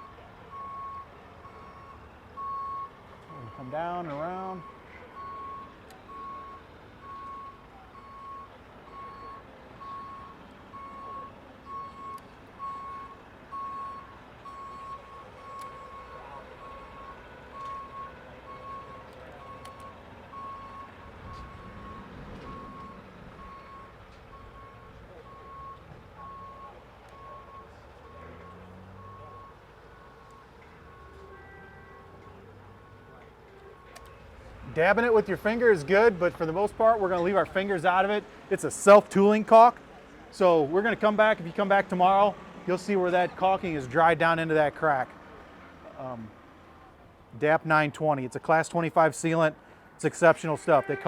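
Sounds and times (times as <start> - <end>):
vehicle backup alarm beeping: 0.0 - 51.0.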